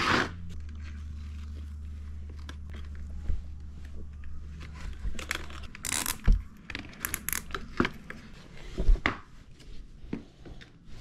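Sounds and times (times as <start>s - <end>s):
scraping and crinkling handling noise: 0.5s - 11.0s.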